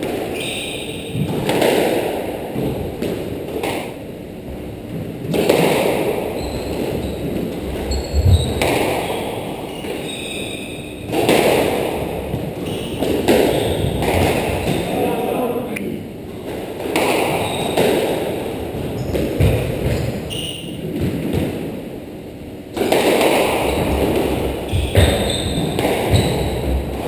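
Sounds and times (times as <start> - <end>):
squash ball hitting rackets and walls: 0.0 - 15.2, 16.3 - 27.0.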